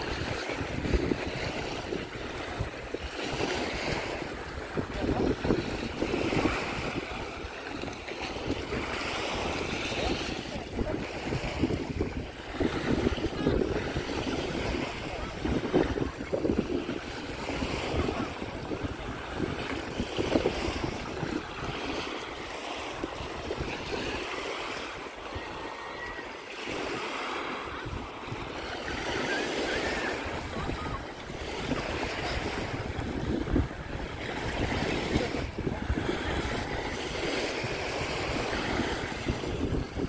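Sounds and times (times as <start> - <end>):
waves washing on sandy beach: 0.0 - 40.0
wind buffeting microphone: 0.0 - 40.0.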